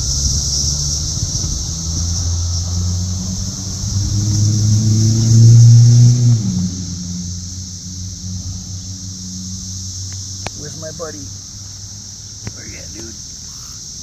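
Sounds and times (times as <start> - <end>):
motor vehicle accelerating past: 0.0 - 12.4
cicadas buzzing: 0.0 - 14.0.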